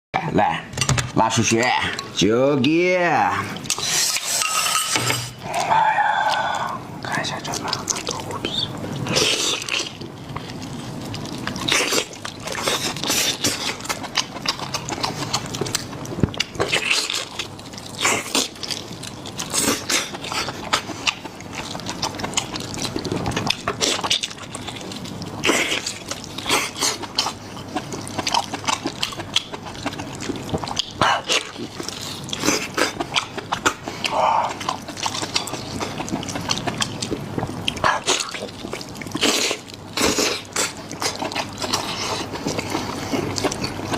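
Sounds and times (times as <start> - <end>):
person chewing and slurping: 3.3 - 43.9.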